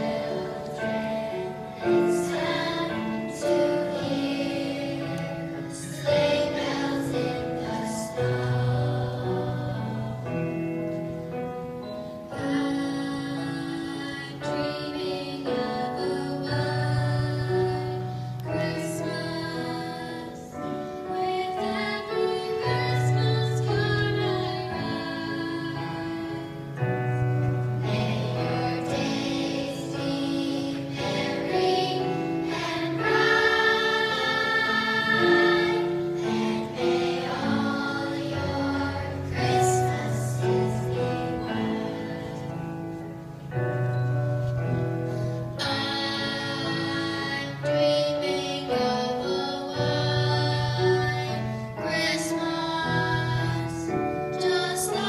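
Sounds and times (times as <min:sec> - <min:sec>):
children's choir singing: 0:00.0 - 0:55.0
low musical accompaniment: 0:00.0 - 0:55.0.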